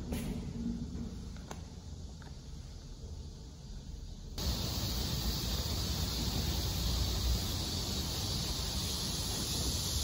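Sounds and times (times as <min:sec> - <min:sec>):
high-pitched hiss: 0:00.0 - 0:10.0.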